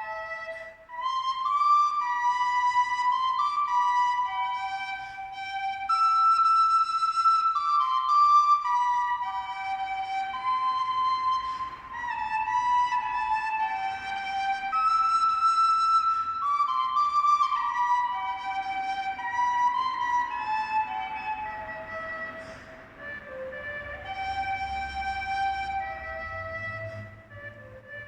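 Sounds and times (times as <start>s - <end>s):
slow flute melody: 0.0s - 28.0s.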